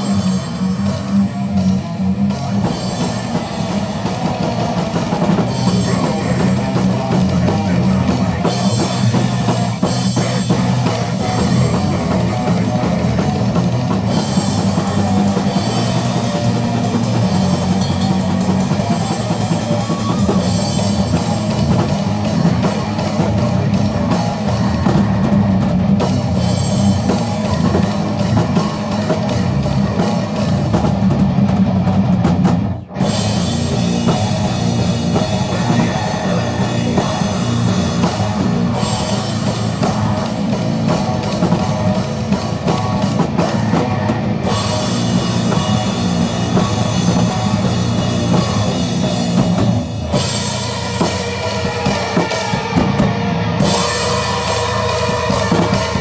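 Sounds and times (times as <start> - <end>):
fast drum kit with bass drum: 0.0 - 56.0
heavy rock music: 0.0 - 56.0.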